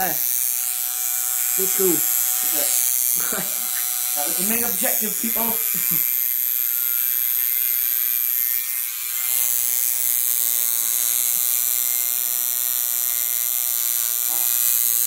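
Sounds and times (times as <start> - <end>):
electric tattoo machine buzzing: 0.0 - 15.0.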